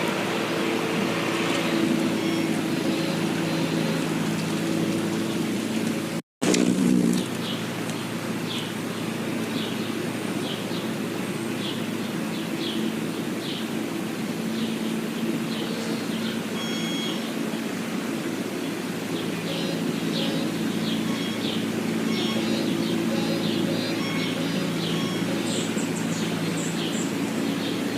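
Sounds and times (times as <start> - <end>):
small birds chirping: 0.0 - 6.1, 7.0 - 27.9
low hum and hiss: 0.0 - 27.9.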